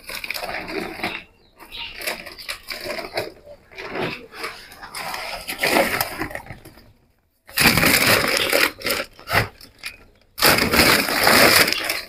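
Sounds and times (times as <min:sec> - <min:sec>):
plastic sacks rustling and crackling: 0:00.0 - 0:12.0.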